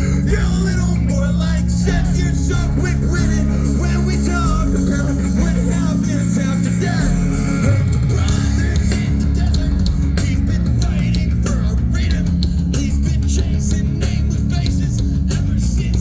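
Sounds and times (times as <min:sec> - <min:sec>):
bass: 0:00.0 - 0:16.0
drums: 0:00.0 - 0:16.0
guitar: 0:00.0 - 0:16.0
person singing: 0:00.0 - 0:16.0.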